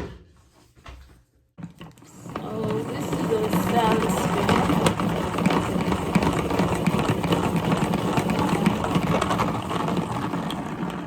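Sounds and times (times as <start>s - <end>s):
salad spinner whirring: 1.8s - 11.0s.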